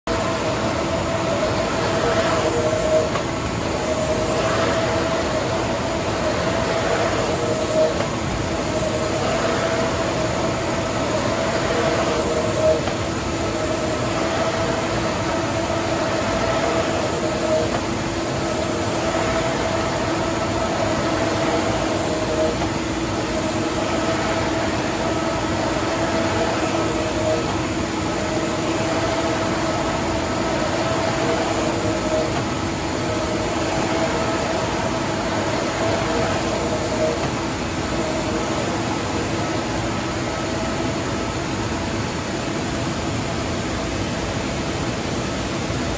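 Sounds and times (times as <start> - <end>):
printer carriage whine and hum: 0.0 - 45.9.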